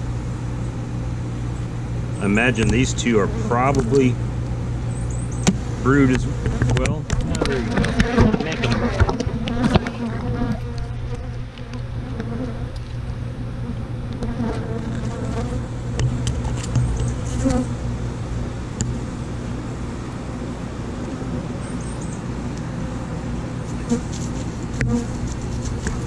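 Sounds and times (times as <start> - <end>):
honey bee colony buzzing: 0.0 - 26.0.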